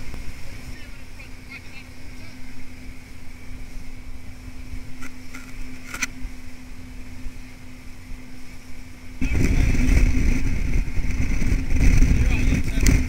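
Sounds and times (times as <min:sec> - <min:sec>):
boat engine running: 0:00.0 - 0:13.0
rush of wind and water: 0:00.0 - 0:13.0.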